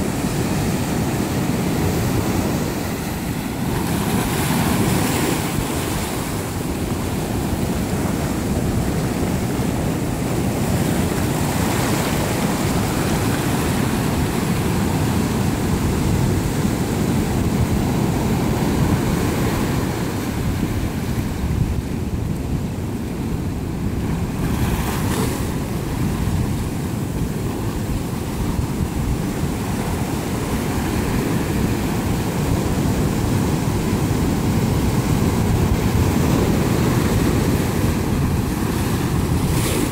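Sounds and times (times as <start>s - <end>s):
ocean surf breaking on rocks: 0.0s - 39.9s
wind buffeting the microphone: 0.0s - 39.9s.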